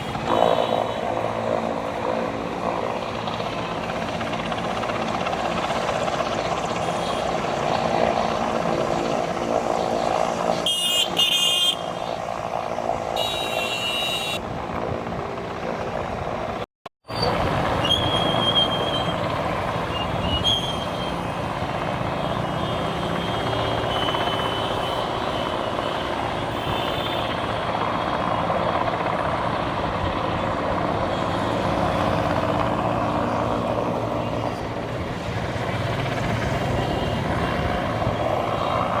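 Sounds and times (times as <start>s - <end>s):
steady engine noise: 0.0s - 39.0s.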